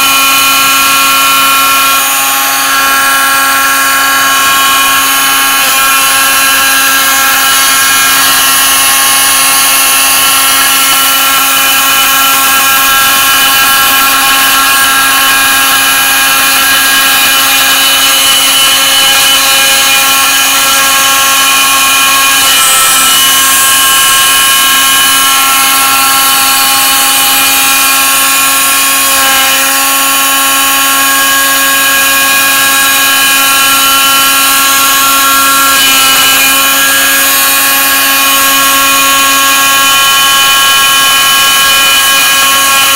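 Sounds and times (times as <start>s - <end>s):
mill spindle high whine: 0.0s - 42.9s.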